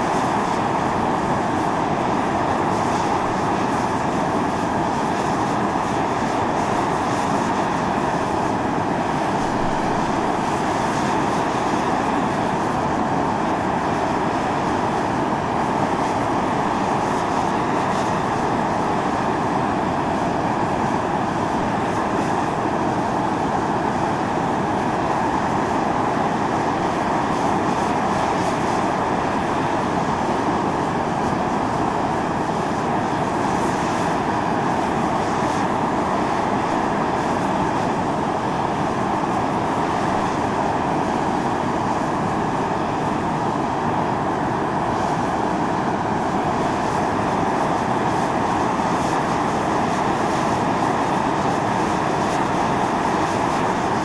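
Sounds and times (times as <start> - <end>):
fumarole steam hissing: 0.0 - 54.0.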